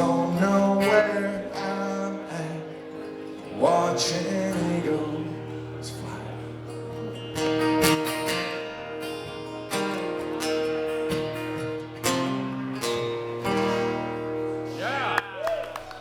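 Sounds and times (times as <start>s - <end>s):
acoustic guitars strumming chords: 0.0s - 15.3s.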